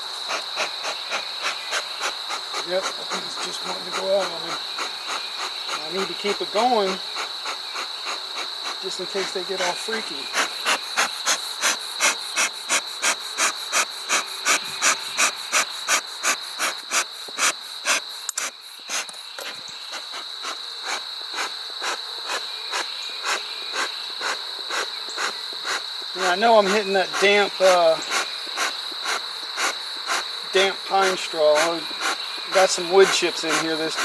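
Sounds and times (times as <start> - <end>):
bellows puffing air: 0.3 - 19.1, 24.2 - 34.0.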